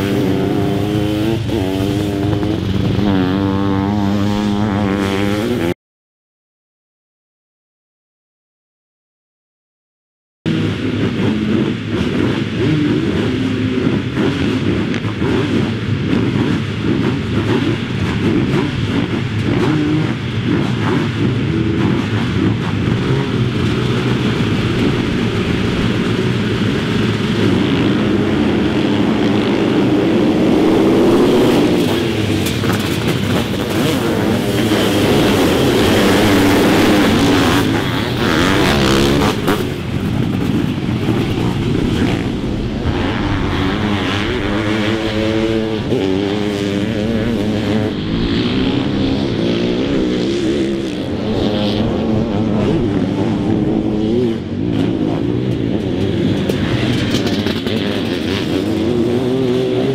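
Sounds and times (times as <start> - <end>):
sidecar motocross engines revving: 0.0 - 5.7, 10.5 - 59.9.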